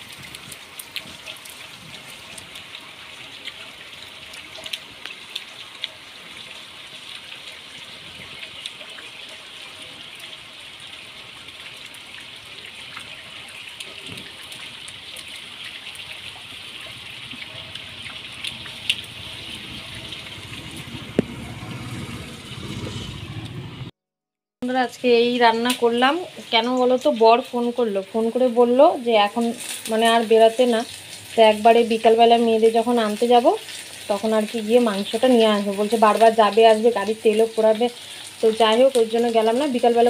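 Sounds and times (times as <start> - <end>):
steady rain falling: 0.0 - 23.7, 24.9 - 40.0.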